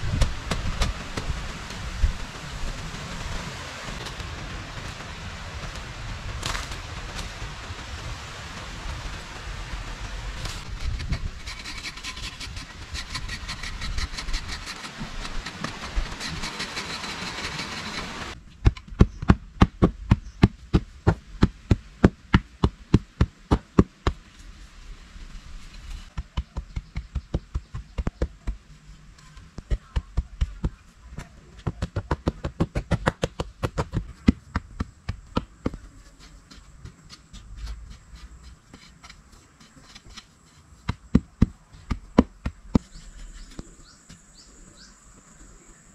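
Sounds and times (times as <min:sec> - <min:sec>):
steady hiss: 0:00.0 - 0:18.7, 0:20.0 - 0:45.9.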